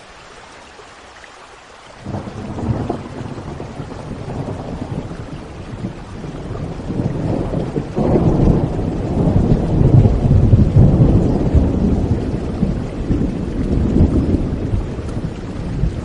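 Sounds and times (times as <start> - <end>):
steady rainfall: 0.0 - 16.0
low rumble of thunder: 2.0 - 16.0.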